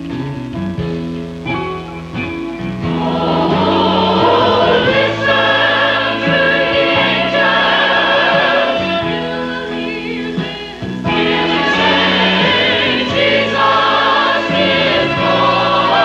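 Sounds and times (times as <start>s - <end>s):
instrumental accompaniment: 0.0s - 16.0s
church choir singing: 2.8s - 16.0s.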